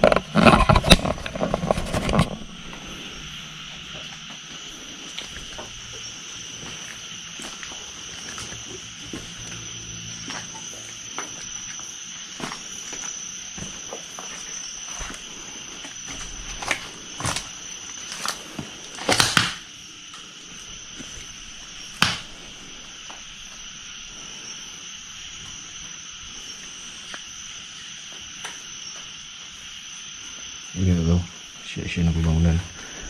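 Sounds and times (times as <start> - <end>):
night insects chirring: 0.0 - 33.0.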